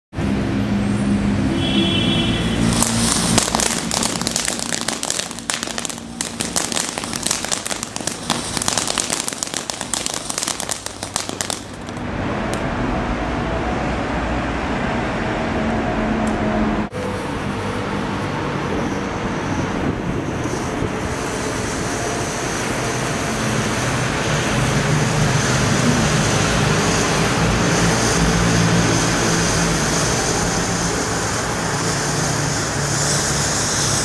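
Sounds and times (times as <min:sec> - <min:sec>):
firework hissing and crackling: 0:01.6 - 0:12.1, 0:17.2 - 0:34.0.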